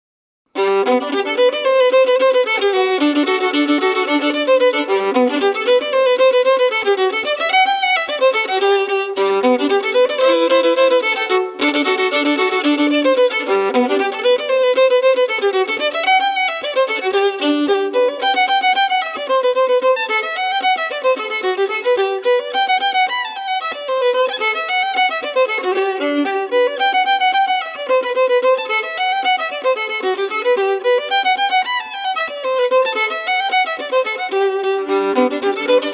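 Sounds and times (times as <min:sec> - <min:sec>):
fiddle playing fast folk tune: 0:00.5 - 0:35.9.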